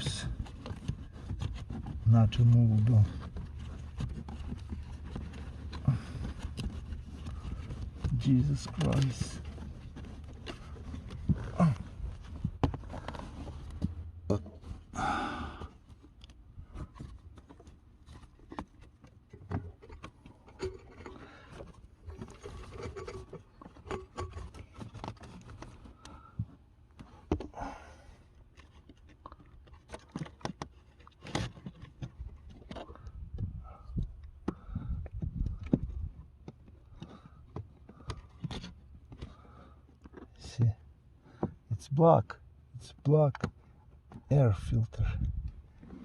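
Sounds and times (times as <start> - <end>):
air filter housing clicks and knocks: 2.6 - 14.6, 15.6 - 27.6, 28.4 - 41.6, 43.0 - 46.0.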